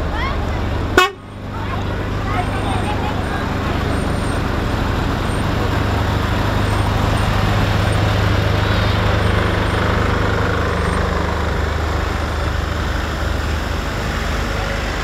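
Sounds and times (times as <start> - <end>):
diesel engines droning past: 0.0 - 15.0.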